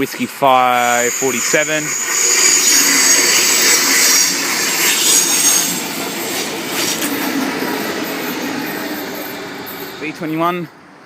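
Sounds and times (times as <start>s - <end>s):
train rolling noise: 0.0s - 11.0s
train wheel squeal: 0.2s - 10.6s.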